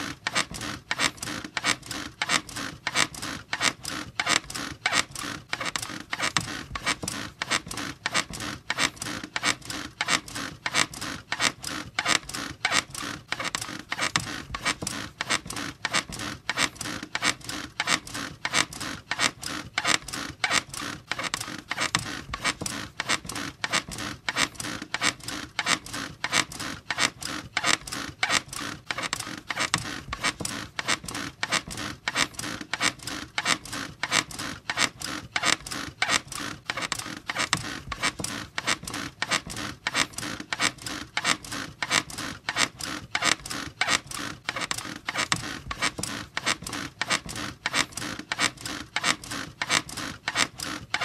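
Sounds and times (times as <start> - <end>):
bed squeaking and creaking: 0.0 - 51.0.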